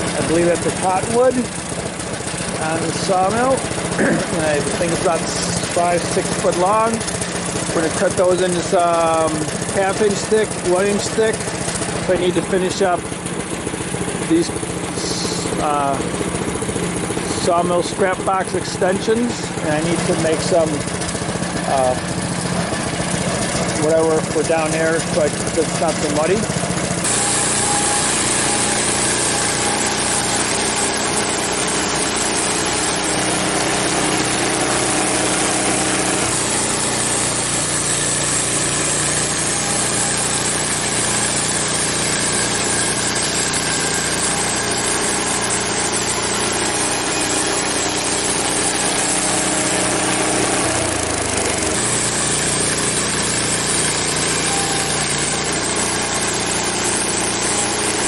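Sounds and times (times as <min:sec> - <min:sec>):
bandsaw sawing log: 0:00.0 - 0:58.0
small gas engine running: 0:00.0 - 0:58.0.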